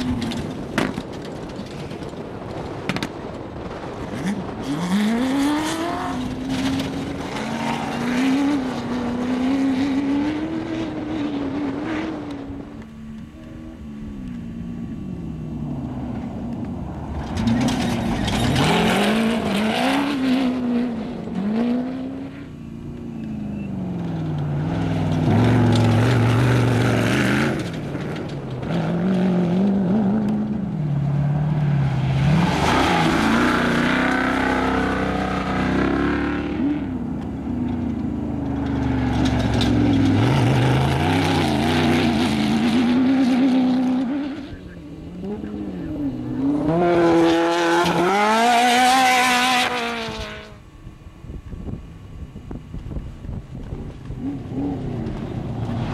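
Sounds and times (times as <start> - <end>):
tyres on dirt: 0.0 - 50.6, 52.6 - 55.9
race vehicles passing at speed: 2.9 - 50.6, 54.0 - 55.9.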